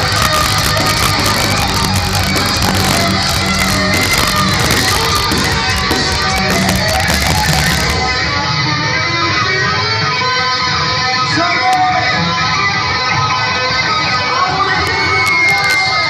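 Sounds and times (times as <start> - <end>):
heavy metal band playing live: 0.0 - 16.0.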